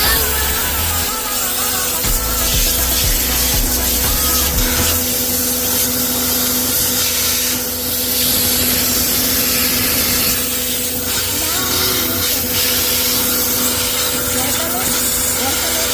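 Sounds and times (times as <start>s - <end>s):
washing machine motor hum: 0.0s - 15.9s.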